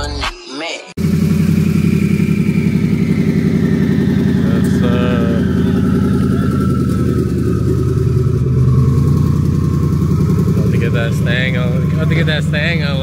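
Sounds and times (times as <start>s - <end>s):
car engine running loudly: 1.0s - 13.0s.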